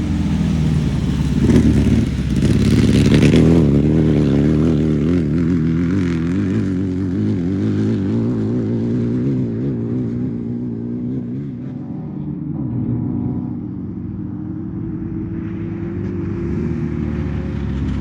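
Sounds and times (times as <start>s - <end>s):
off-road vehicle engine passing: 0.0s - 18.0s.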